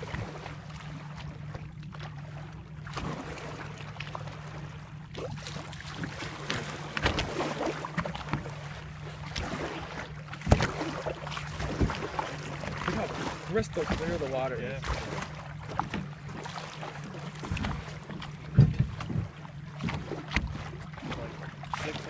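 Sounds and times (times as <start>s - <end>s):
boat engine idling: 0.0s - 22.0s
water sloshing against hull: 0.0s - 22.0s.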